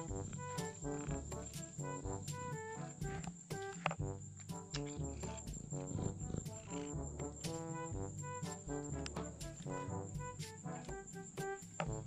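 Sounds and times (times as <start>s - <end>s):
background music with beat: 0.0s - 6.1s, 6.9s - 12.0s.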